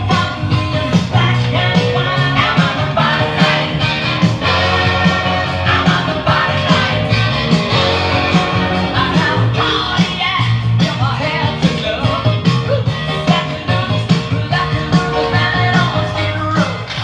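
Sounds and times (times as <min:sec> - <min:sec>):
rock and roll song with singing: 0:00.0 - 0:17.0.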